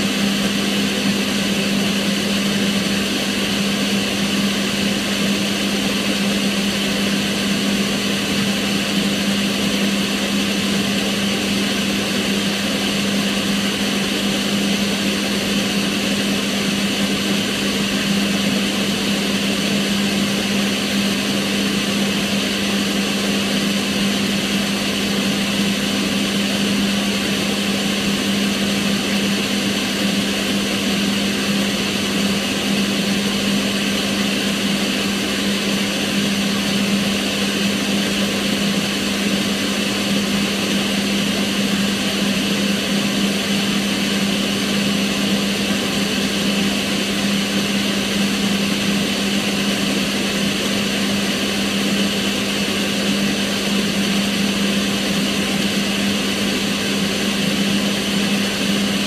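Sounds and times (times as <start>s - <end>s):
extractor fan air rush: 0.0s - 59.0s.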